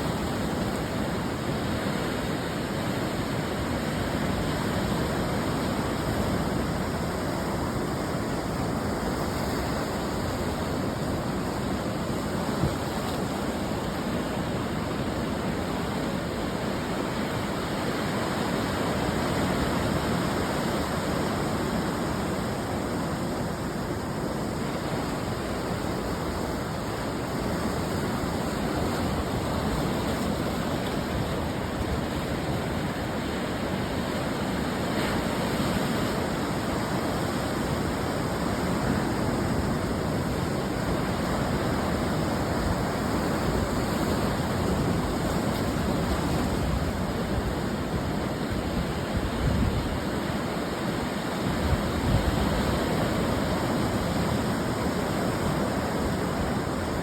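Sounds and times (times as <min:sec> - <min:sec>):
ocean surf washing on shore: 0:00.0 - 0:57.0.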